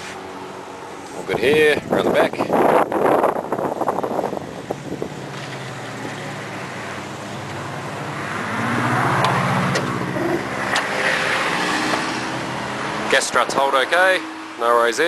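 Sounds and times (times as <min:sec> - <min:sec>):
passing vehicle engine: 0:02.4 - 0:15.0.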